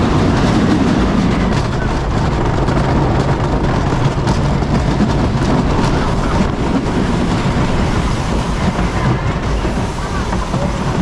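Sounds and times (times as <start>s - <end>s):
roller coaster wheels rumbling: 0.0s - 11.0s.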